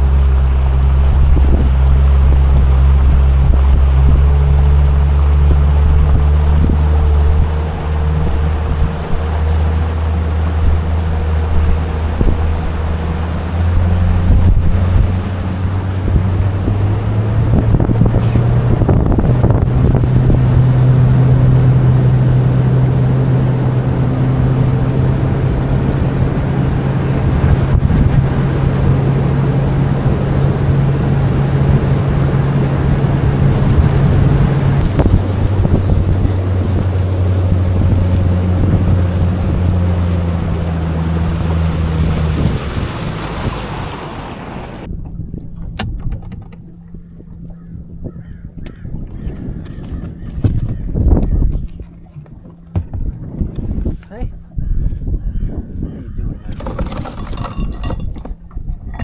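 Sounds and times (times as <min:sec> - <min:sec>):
outboard motor running: 0:00.0 - 0:59.0
wind on microphone: 0:00.0 - 0:59.0.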